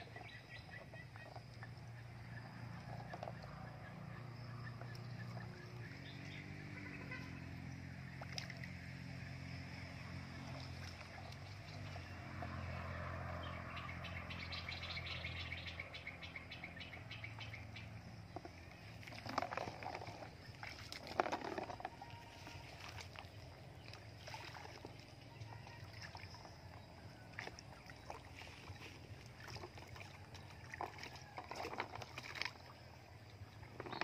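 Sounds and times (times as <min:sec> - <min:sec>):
water sloshing around wading person: 0:00.0 - 0:34.0.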